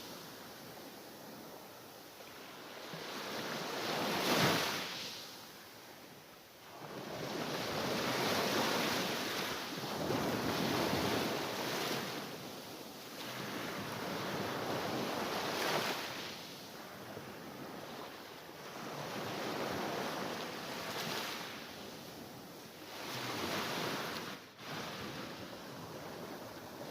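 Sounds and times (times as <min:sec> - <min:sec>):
waves washing onto shore: 0:00.0 - 0:26.9.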